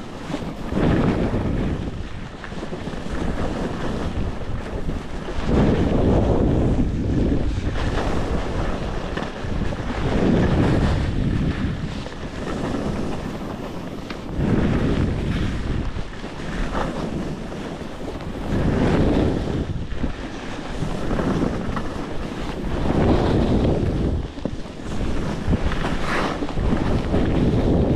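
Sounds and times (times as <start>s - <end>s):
skis scraping over snow: 0.0s - 27.9s
wind buffeting microphone: 0.0s - 27.9s.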